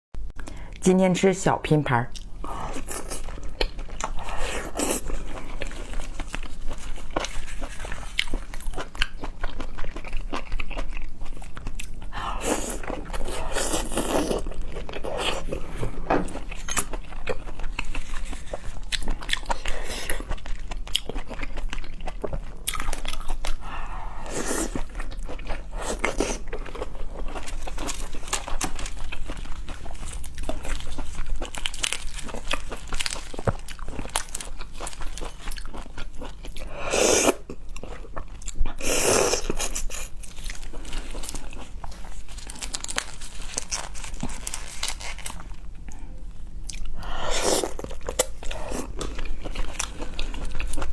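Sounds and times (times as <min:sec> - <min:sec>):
person eating crunchy food: 0:02.1 - 0:50.9.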